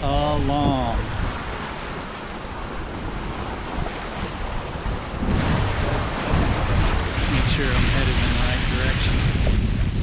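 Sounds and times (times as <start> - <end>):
water rushing past hull: 0.0 - 10.0
wind on microphone: 0.0 - 10.0.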